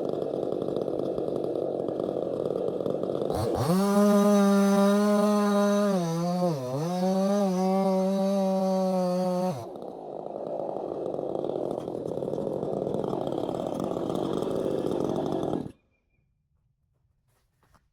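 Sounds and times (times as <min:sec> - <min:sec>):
chainsaw running at high revs: 0:00.0 - 0:15.8.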